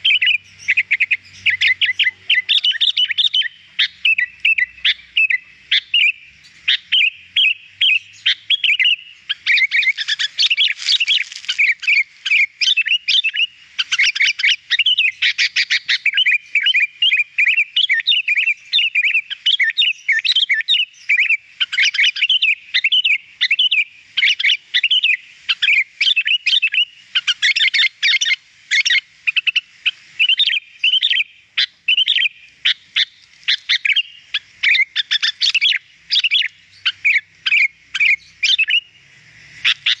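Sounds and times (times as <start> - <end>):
bird singing chattering chirps: 0.0 - 40.0.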